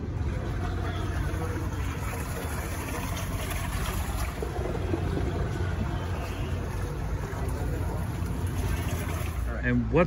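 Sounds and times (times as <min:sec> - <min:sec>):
propeller churning water: 0:00.0 - 0:10.0.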